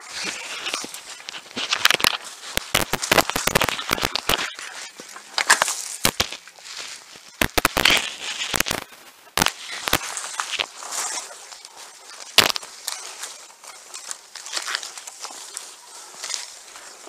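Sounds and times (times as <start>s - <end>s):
leaves and branches rustling: 0.0s - 17.0s
twigs cracking: 0.0s - 17.0s.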